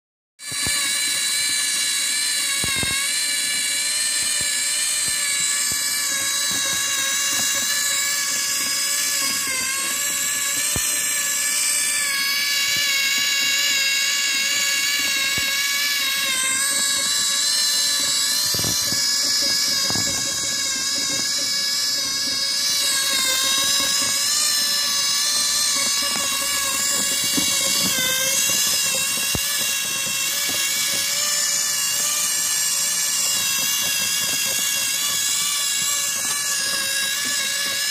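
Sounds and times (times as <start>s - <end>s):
small electric motor whine: 0.4s - 37.9s.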